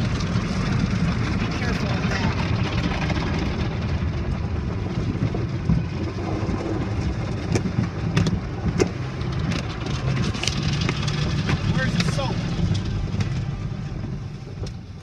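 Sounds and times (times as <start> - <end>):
car wash machinery rumble: 0.0 - 15.0.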